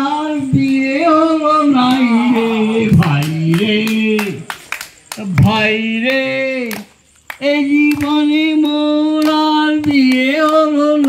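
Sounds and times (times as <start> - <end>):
man singing into microphone: 0.0 - 4.5, 5.2 - 11.0.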